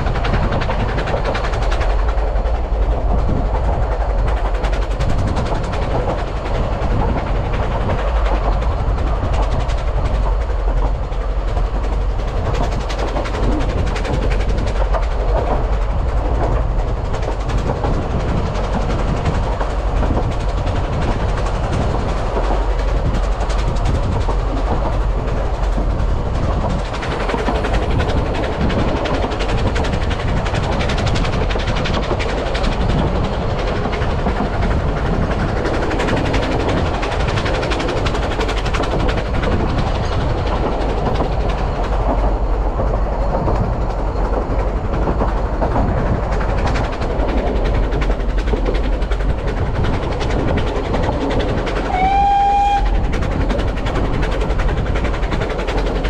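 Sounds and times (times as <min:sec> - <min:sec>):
railway carriages rolling rumble: 0:00.0 - 0:56.0
wheels rattling on rails: 0:00.0 - 0:56.0.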